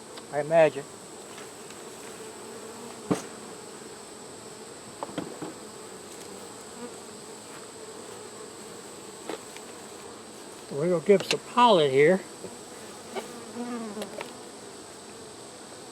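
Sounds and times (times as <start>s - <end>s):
bees buzzing: 0.0s - 15.9s.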